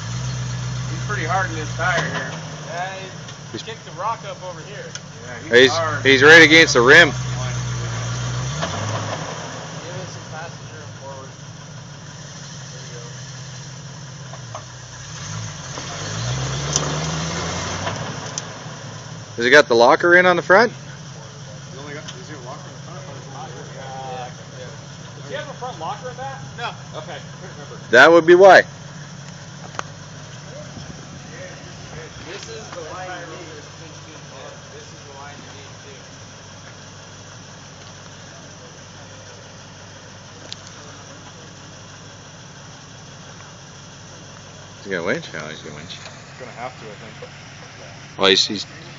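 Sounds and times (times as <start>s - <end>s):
off-road vehicle engine revving: 0.0s - 48.9s.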